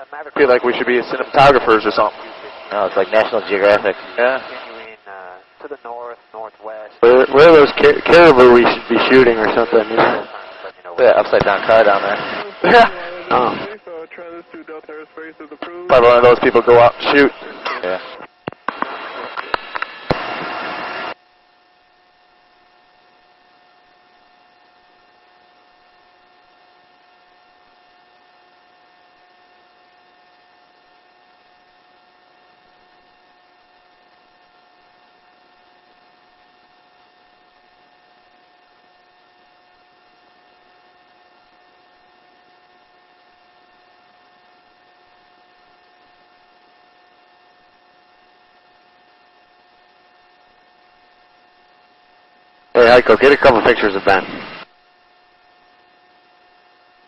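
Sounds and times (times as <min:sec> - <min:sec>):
steady whining tones: 0:00.0 - 0:56.9
faint electrical hum: 0:00.0 - 0:57.0.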